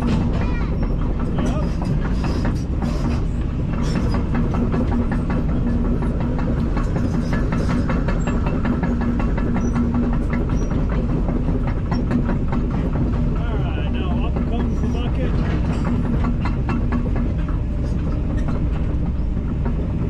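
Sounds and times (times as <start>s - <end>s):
excavator engine droning: 0.0s - 20.0s
rattling clicks and clanks: 0.0s - 20.0s.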